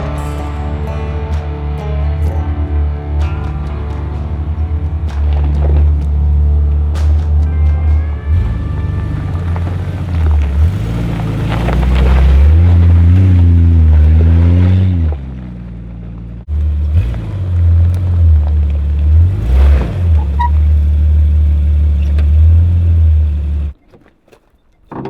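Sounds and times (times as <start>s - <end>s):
vehicle engine revving: 0.0s - 23.8s.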